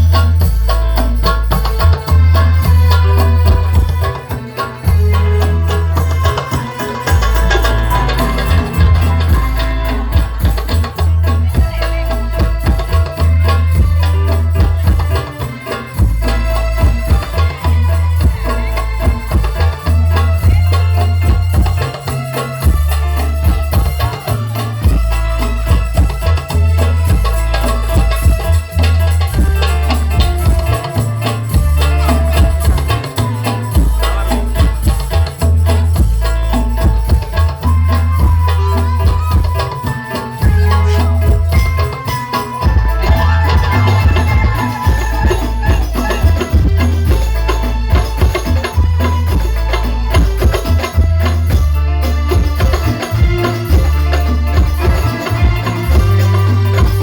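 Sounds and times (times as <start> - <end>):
devotional music over sound system: 0.0 - 57.0
heavy pulsing bass: 0.0 - 57.0.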